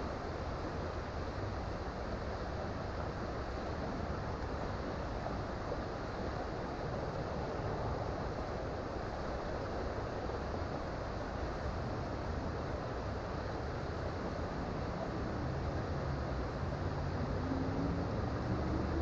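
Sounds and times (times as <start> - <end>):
creek water rushing: 0.1 - 19.0.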